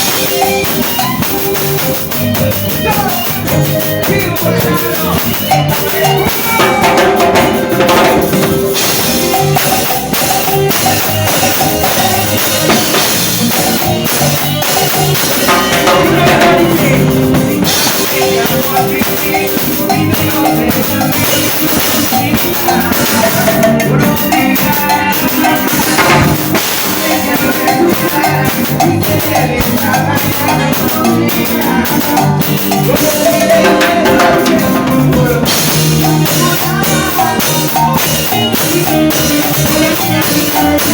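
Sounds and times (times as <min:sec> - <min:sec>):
cumbia band playing live: 0:00.0 - 0:40.9
drum kit beat: 0:00.0 - 0:40.9.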